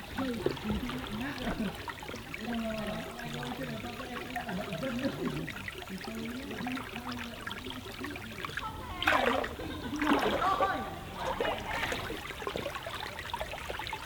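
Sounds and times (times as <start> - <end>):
stream running: 0.0 - 14.0.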